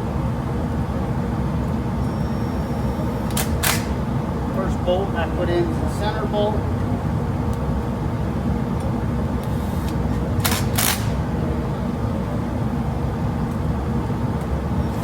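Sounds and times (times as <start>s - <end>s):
extractor fan droning: 0.0s - 15.0s.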